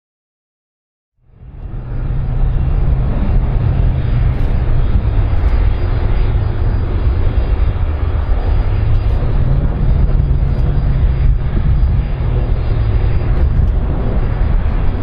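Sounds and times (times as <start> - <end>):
airplane engine rumble: 1.2 - 15.0.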